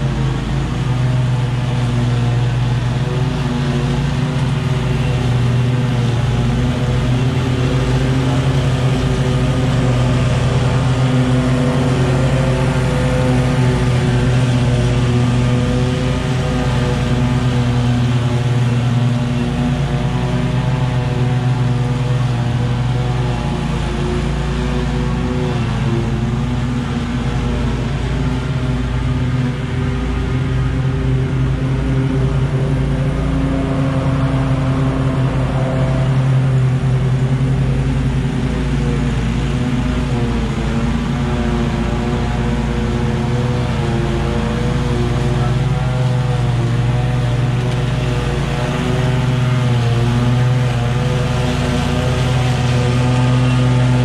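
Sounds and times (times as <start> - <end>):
lawn mower engine cutting grass: 0.0 - 54.0.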